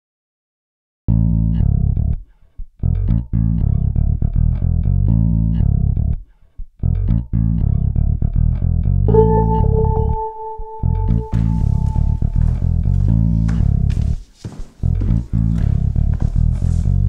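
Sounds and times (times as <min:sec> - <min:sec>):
music with plucked bass guitar: 0:01.1 - 0:14.2, 0:14.8 - 0:17.0.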